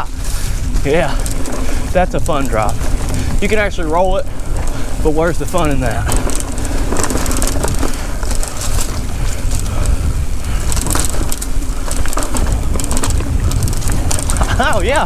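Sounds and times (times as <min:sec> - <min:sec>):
bike tyres crunching over dry leaves: 0:00.0 - 0:15.0
wind rumble on microphone: 0:00.0 - 0:15.0.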